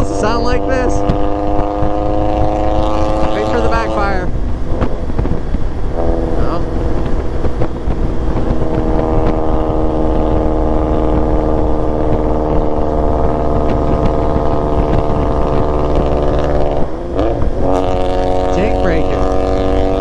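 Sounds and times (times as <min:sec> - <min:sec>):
motorcycle engine cruising: 0:00.0 - 0:20.0
wind rush: 0:00.0 - 0:20.0.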